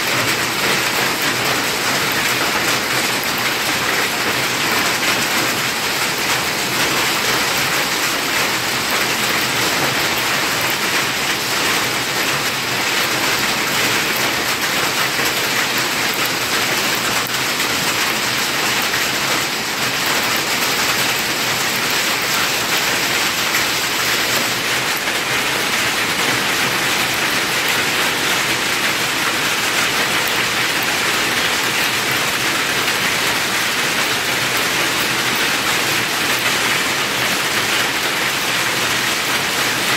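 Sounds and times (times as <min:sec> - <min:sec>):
hailstones pelting wet pavement: 0:00.1 - 0:39.9.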